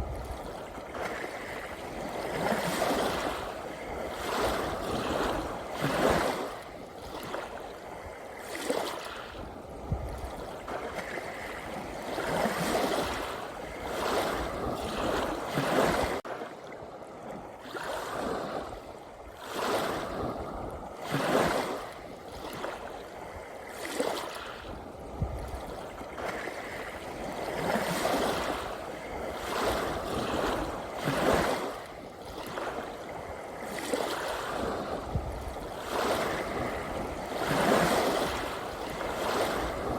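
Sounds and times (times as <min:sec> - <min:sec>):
small ocean waves breaking: 0:00.0 - 0:39.9.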